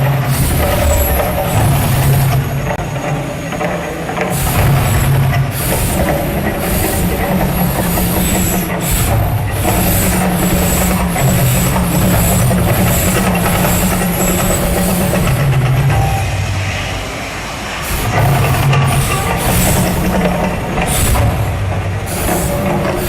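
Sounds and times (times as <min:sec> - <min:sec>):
surges of hissing: 0:00.0 - 0:02.4, 0:04.3 - 0:15.8, 0:16.4 - 0:23.0.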